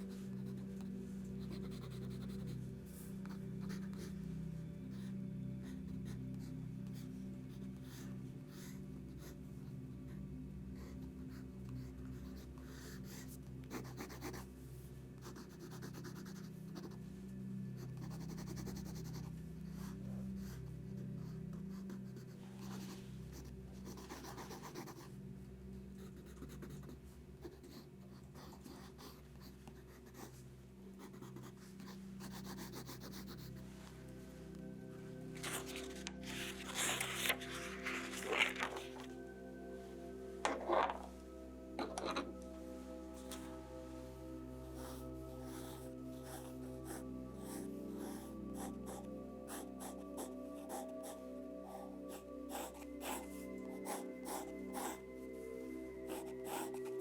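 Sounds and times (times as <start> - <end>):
sketching strokes on paper: 0.0 - 9.4, 10.8 - 17.1, 17.7 - 25.2, 26.0 - 33.8, 35.3 - 39.1, 42.8 - 57.0.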